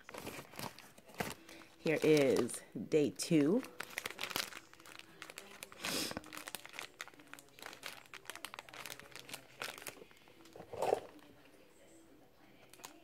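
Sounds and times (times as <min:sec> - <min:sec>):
paper gift bag crinkling: 0:00.0 - 0:02.6, 0:03.2 - 0:11.3.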